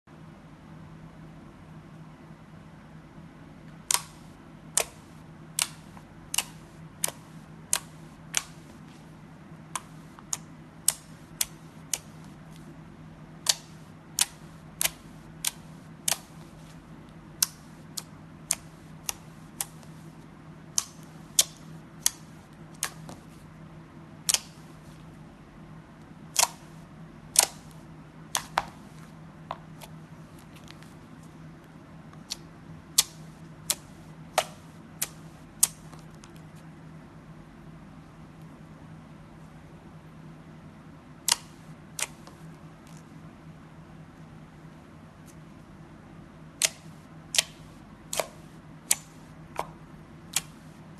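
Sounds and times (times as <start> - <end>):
faint low hum: 0.1 - 50.9.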